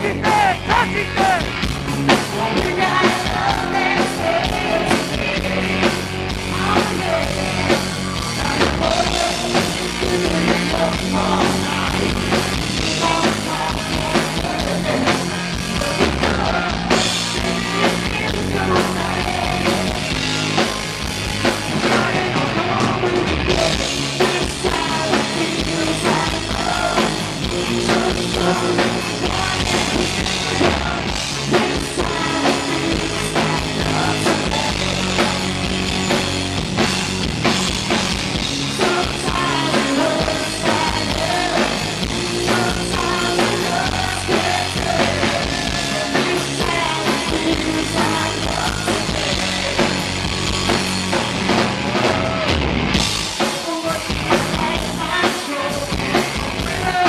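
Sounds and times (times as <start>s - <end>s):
man singing: 0.0s - 20.2s, 21.7s - 35.7s, 38.6s - 50.1s, 53.4s - 57.0s
live hard rock band: 0.0s - 57.0s.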